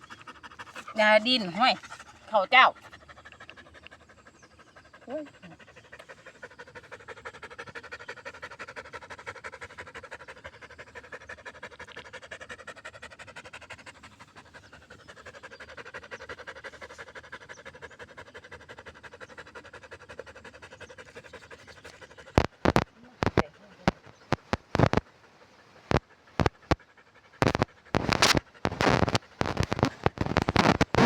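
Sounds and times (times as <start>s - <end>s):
dog panting: 0.0s - 31.0s.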